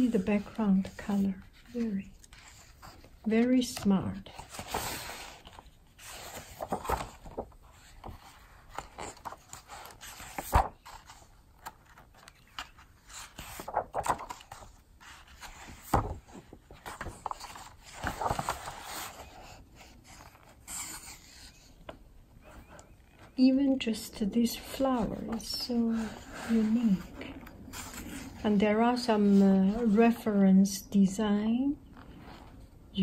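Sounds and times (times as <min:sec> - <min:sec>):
paper rustling and sliding: 0:00.0 - 0:21.8, 0:24.5 - 0:30.2.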